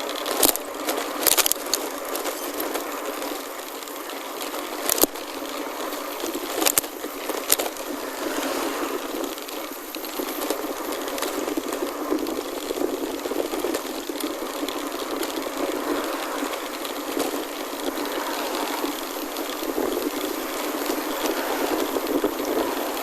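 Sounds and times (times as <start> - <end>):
bike clicks and rattles: 0.0 - 23.0
bike tyres on gravel: 0.0 - 23.0.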